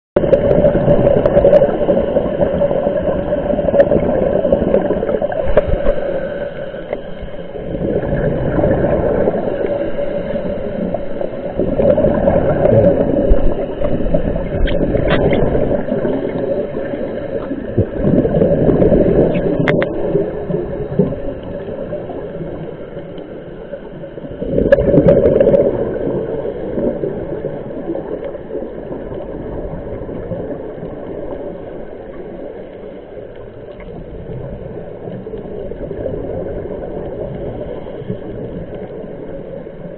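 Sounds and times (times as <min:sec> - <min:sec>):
regulator bubbles gurgling underwater: 0:00.2 - 0:39.9.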